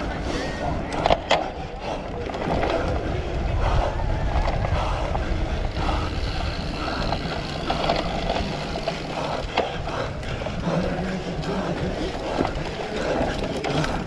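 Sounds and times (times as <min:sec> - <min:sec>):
bike tyres and frame rattling: 0:00.0 - 0:14.0
wind buffeting microphone: 0:00.0 - 0:14.0.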